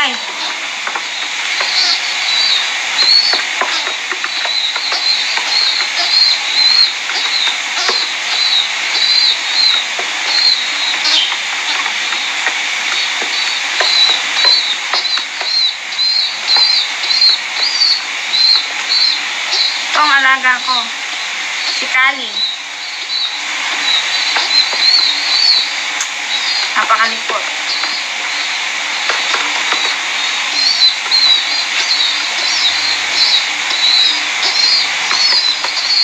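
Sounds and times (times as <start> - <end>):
steady background hiss: 0.0 - 36.0
young pigeon peeping: 0.0 - 36.0.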